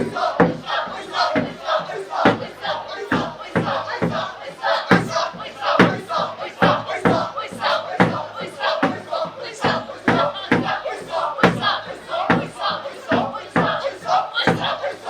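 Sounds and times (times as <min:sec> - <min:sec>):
crowd shouting in rhythm: 0:00.0 - 0:15.0.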